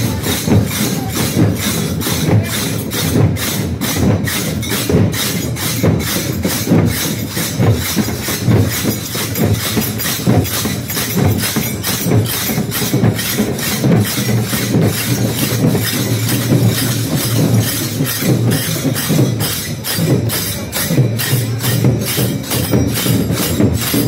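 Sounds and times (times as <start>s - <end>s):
drums beating fast: 0.0s - 24.0s.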